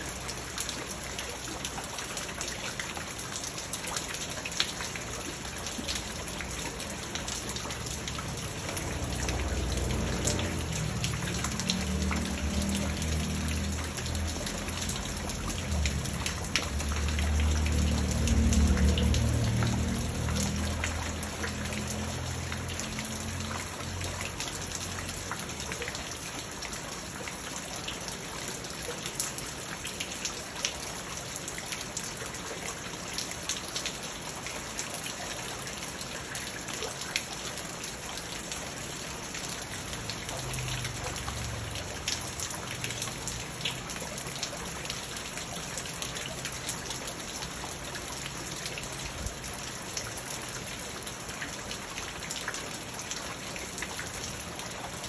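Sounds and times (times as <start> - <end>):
rain pattering on pond and stones: 0.0 - 55.0.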